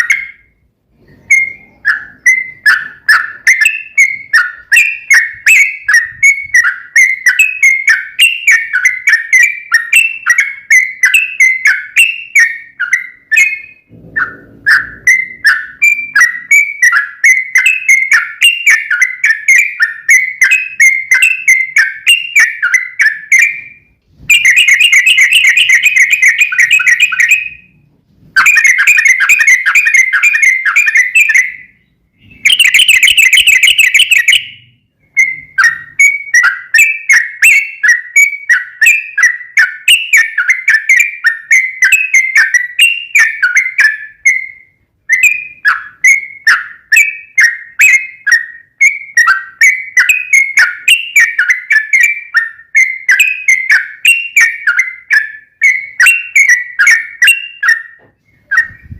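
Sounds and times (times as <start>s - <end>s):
bird chattering song: 0.0s - 27.8s, 28.4s - 58.9s.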